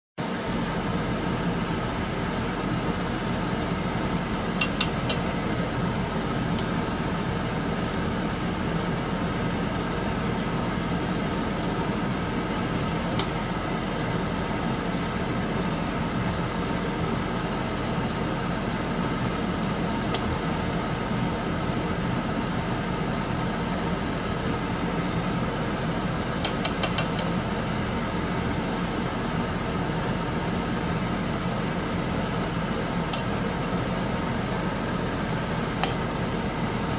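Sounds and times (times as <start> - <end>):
mechanical hum: 0.2 - 36.9.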